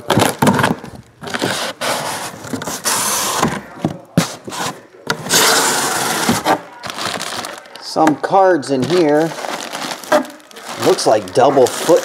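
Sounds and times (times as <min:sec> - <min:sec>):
plastic and bubble wrap rustling: 0:00.0 - 0:12.0.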